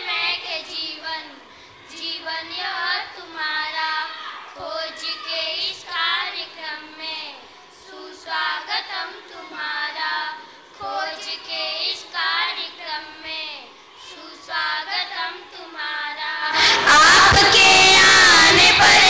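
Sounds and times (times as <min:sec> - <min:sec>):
crowd of many voices: 0:00.0 - 0:19.0
girls singing together: 0:00.0 - 0:19.0.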